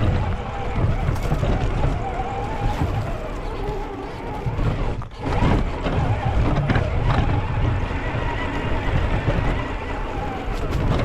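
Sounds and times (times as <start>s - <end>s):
toy truck drivetrain rumbling: 0.0s - 11.0s.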